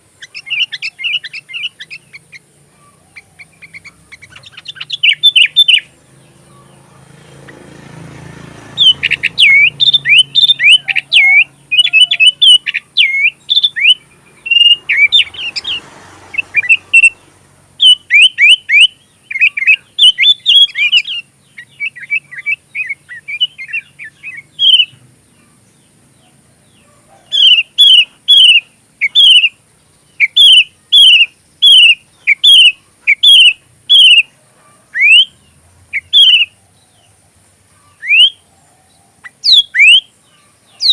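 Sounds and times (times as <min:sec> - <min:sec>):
bird singing whistled notes: 0:00.0 - 0:07.8, 0:08.6 - 0:37.2, 0:37.8 - 0:40.9.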